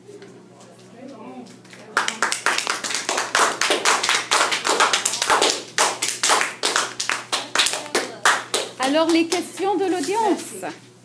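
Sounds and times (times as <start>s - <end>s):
people clapping: 1.6s - 10.8s.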